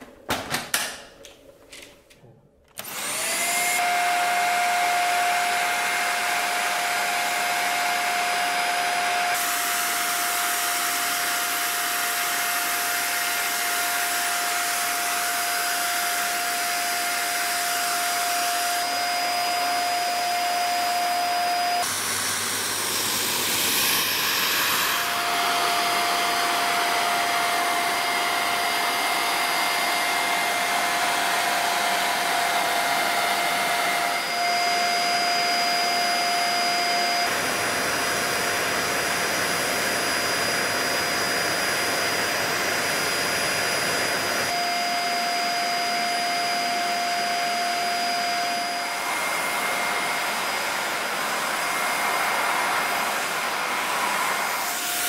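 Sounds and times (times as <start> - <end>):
vacuum cleaner running: 2.7 - 55.0.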